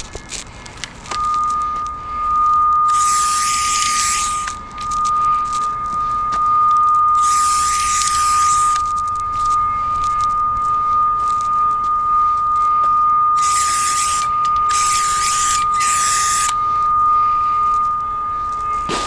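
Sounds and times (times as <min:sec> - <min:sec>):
cable locator steady high tone: 0:00.0 - 0:19.0.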